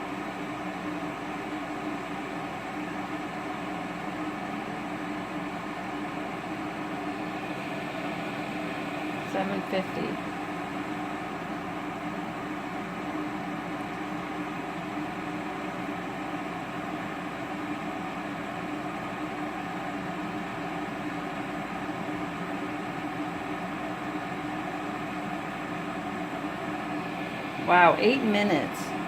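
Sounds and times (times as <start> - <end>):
kettle water boiling: 0.0 - 29.0.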